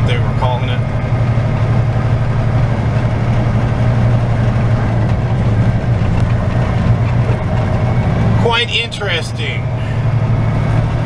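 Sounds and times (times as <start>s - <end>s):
diesel truck engine droning: 0.0s - 11.0s
road noise on gravel: 0.0s - 11.0s.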